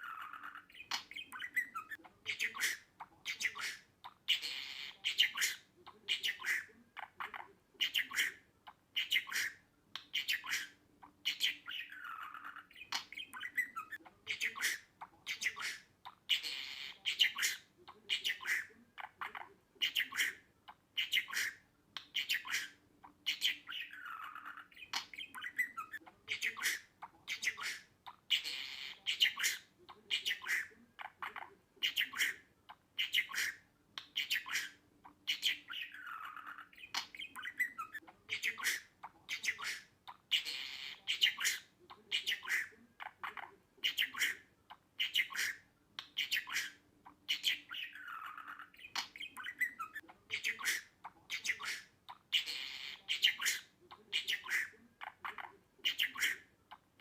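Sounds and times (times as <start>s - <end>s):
budgerigar chattering: 0.0s - 56.8s.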